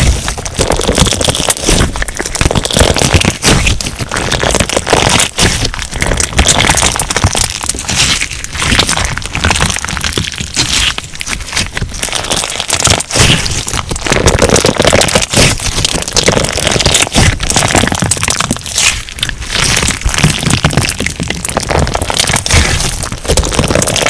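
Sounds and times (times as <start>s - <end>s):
slime crackling and popping: 0.0s - 24.0s.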